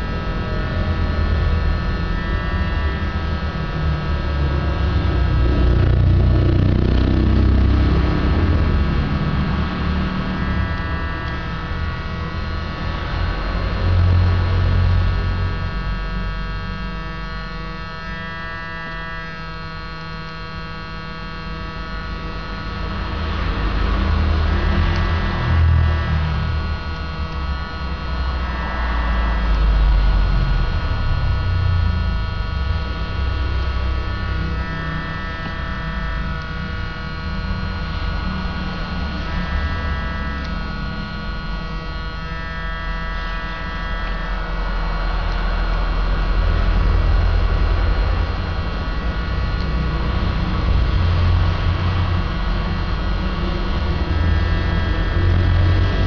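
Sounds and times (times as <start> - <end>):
air tool fan motor humming: 0.0 - 56.0.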